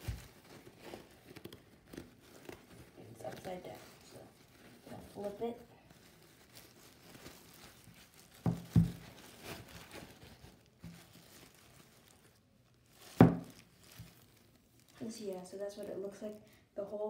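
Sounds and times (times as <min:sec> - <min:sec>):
plastic bag and paper rustling: 0:00.0 - 0:17.0.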